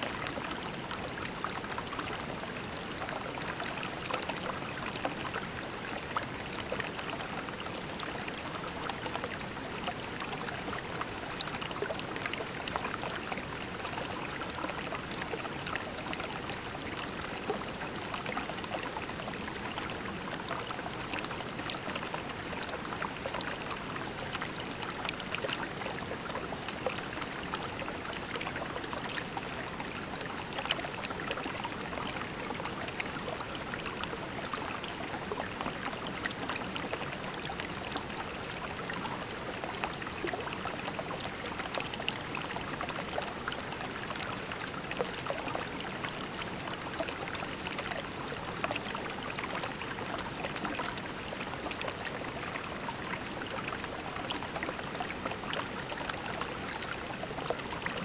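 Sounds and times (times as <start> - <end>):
creek water babbling over pebbles: 0.0 - 58.0.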